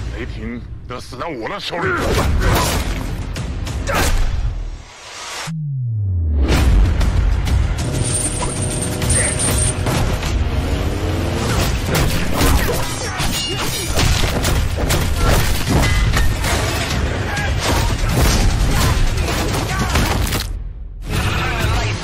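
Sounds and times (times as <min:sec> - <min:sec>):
trailer music: 0:00.0 - 0:22.0.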